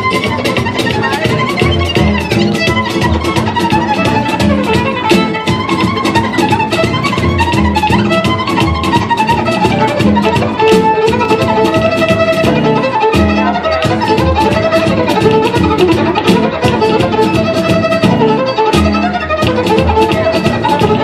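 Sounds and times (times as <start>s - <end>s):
percussive beat: 0.0s - 21.0s
violin playing lively melody: 0.0s - 21.0s.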